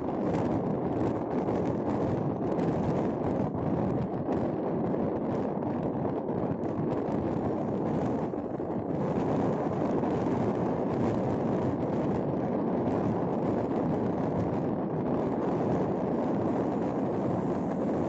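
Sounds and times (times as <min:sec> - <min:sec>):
vehicle road and wind noise: 0:00.0 - 0:18.0.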